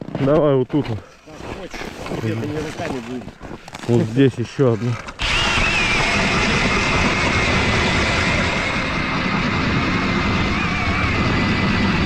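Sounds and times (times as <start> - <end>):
ice auger drilling: 1.4 - 12.0.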